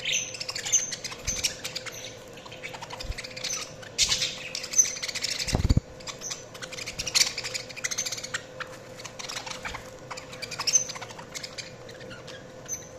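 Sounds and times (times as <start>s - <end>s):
budgies chattering: 0.0s - 12.9s.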